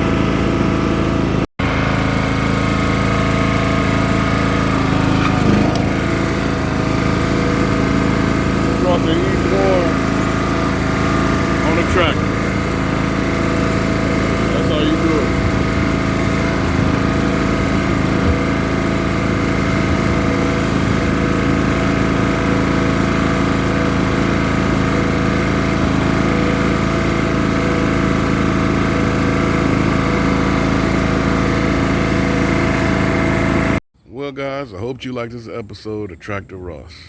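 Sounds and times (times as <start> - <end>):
lawn tractor engine droning: 0.0 - 35.9.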